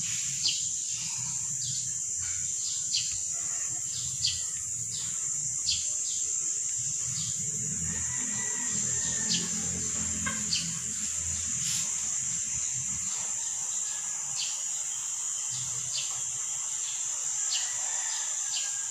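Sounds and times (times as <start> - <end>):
high-pitched insect drone: 0.0 - 18.9.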